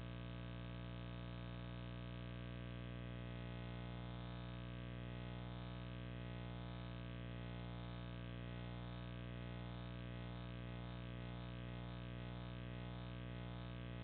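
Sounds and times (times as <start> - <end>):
electrical hum and buzz: 0.0 - 14.0.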